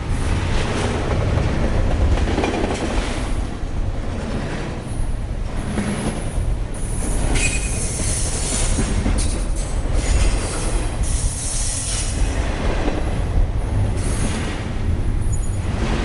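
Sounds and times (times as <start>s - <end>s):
train rolling on rails: 0.0s - 16.0s.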